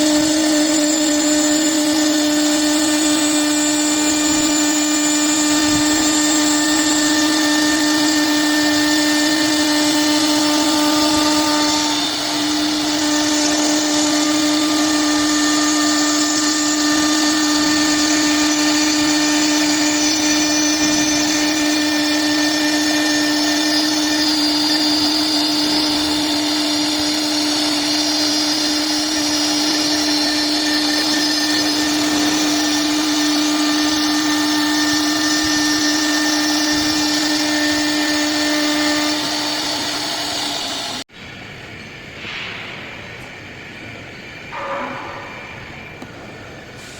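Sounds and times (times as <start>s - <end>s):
saw machine whine: 0.0s - 42.0s.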